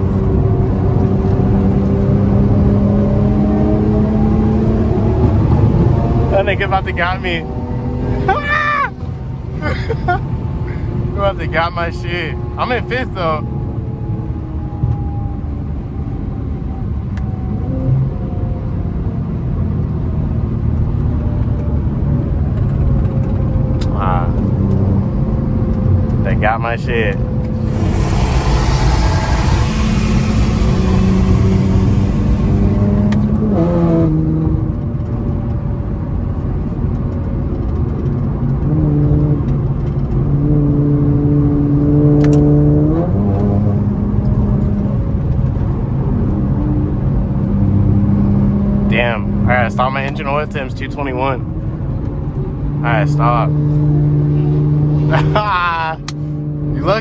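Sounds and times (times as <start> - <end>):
low engine drone: 0.0 - 19.6, 22.5 - 34.8, 41.2 - 57.0
road rumble: 0.0 - 57.0.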